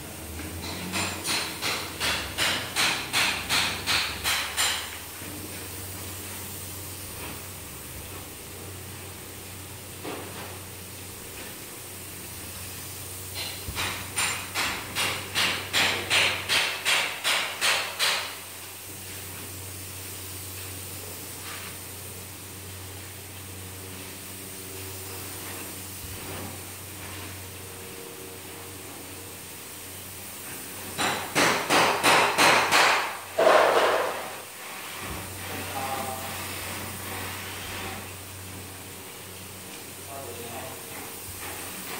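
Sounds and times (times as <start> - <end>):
paint sprayer hissing: 0.0 - 41.9.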